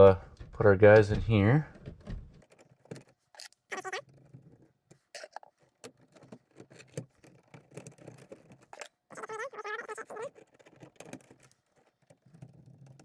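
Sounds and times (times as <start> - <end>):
plastic clicks and scrapes: 1.8 - 13.0.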